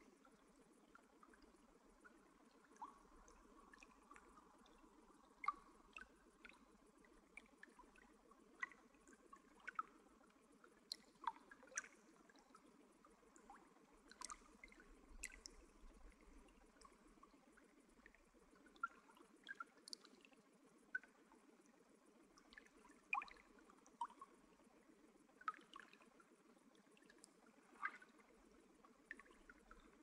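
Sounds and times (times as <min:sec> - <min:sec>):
faint low background noise: 0:00.0 - 0:30.0.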